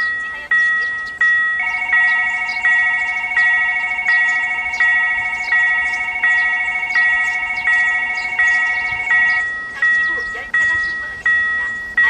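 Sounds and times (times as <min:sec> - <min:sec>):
level crossing warning bell: 0:00.0 - 0:12.0
warbling alarm tone: 0:00.0 - 0:12.0.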